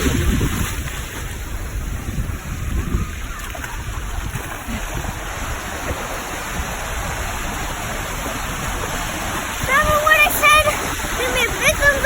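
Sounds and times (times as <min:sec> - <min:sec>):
surf washing in: 0:00.0 - 0:12.0
wind rumble on microphone: 0:00.0 - 0:12.0.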